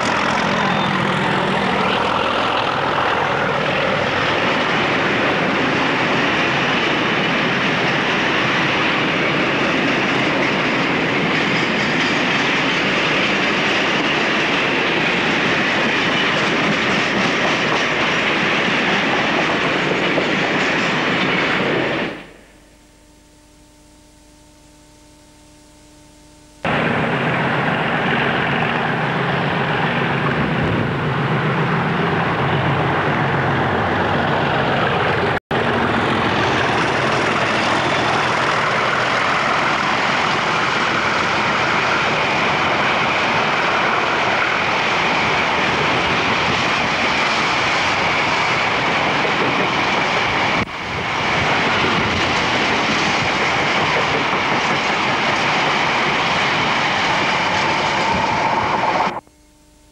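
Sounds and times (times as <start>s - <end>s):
rumble of freight wagons: 0.0s - 22.4s, 26.7s - 59.2s
diesel locomotive engines: 0.0s - 22.7s, 26.6s - 59.3s.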